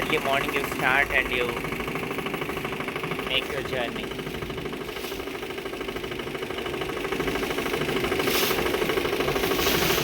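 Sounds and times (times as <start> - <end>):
motorboat engine chugging: 0.0 - 10.0.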